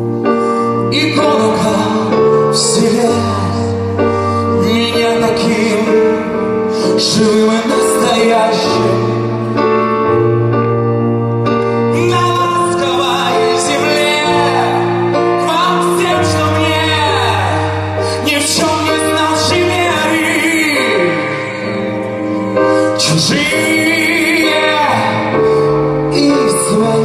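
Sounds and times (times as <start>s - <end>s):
live band music: 0.0s - 27.0s
man singing: 0.6s - 9.8s, 11.6s - 27.0s.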